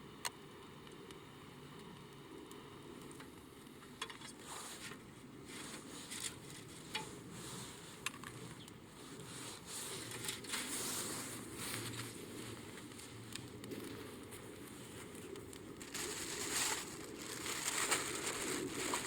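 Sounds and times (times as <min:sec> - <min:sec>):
wood fire crackling: 0:00.2 - 0:19.0.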